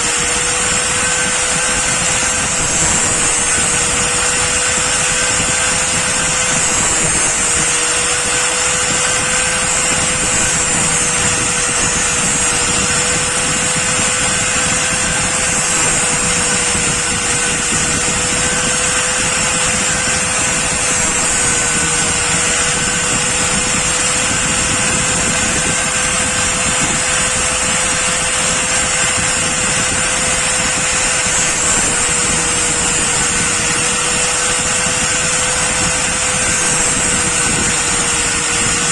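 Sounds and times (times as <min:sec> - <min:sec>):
electric power tool running: 0:00.0 - 0:38.9.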